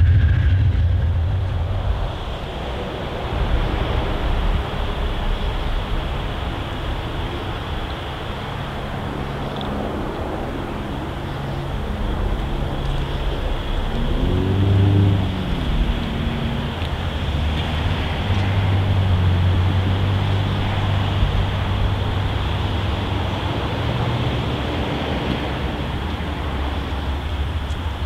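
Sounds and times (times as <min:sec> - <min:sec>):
diesel locomotive droning: 0:00.0 - 0:28.0
wind noise: 0:00.0 - 0:28.0.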